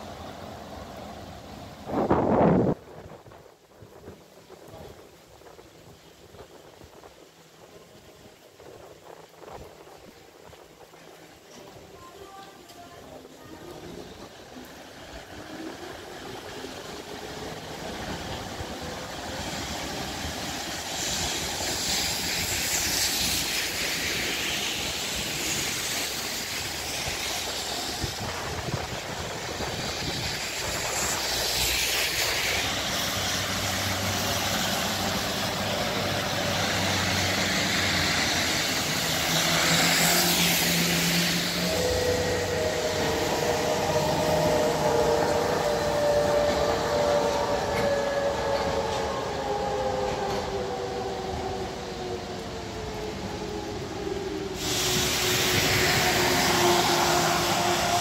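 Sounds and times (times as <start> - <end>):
tram hum and whine: 0.0 - 58.0
tyres hissing on wet road: 0.0 - 58.0.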